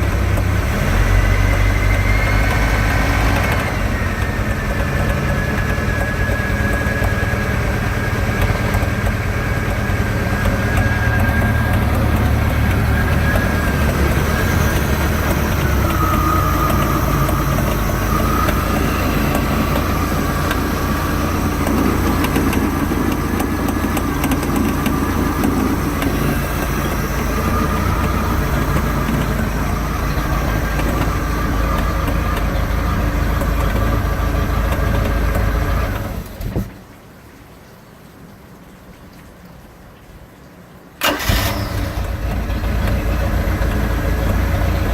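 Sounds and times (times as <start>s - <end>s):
boat engine running: 0.0s - 36.8s, 41.0s - 44.9s
engine clicking noise: 0.0s - 37.0s, 41.0s - 44.9s.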